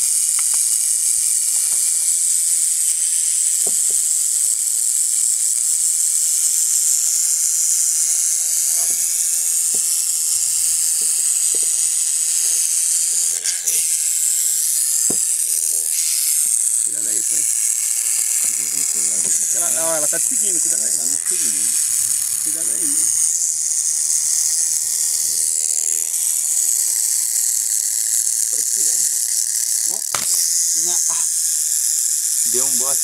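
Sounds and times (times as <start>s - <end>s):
rattlesnake tail rattling: 0.0s - 33.0s.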